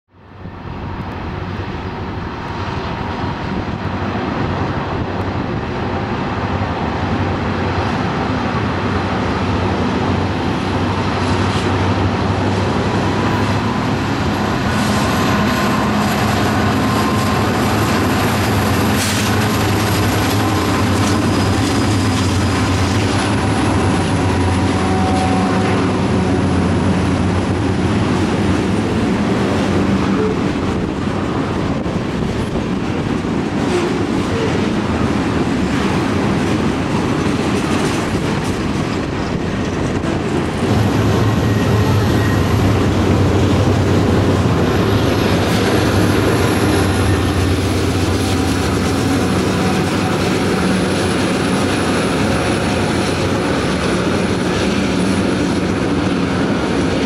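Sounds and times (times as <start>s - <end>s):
diesel locomotive engines droning: 0.1s - 57.0s
freight cars wheels rumbling: 0.3s - 57.0s.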